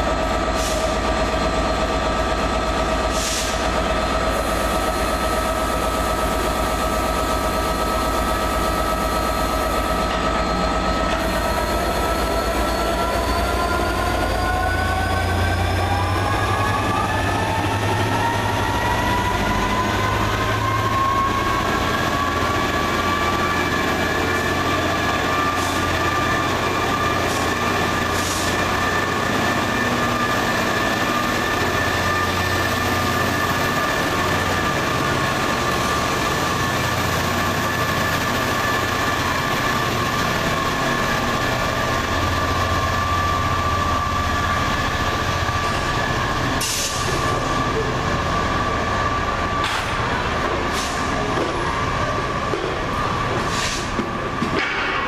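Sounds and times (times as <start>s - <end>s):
locomotive engine whine: 0.0s - 55.0s.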